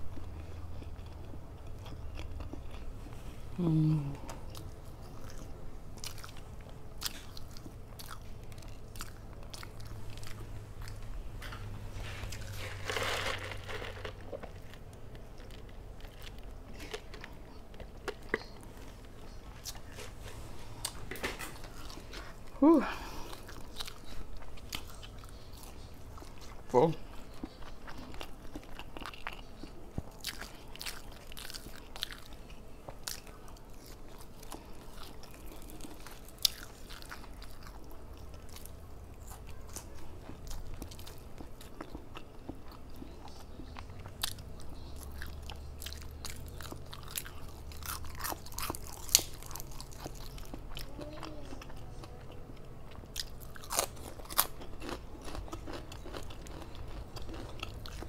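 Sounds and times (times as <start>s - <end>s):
chewing and crunching fried fish: 0.0s - 58.0s.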